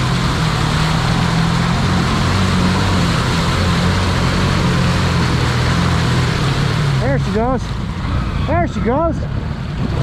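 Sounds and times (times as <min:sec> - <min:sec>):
atv engine running hard: 0:00.0 - 0:10.0
tires churning mud: 0:00.0 - 0:10.0.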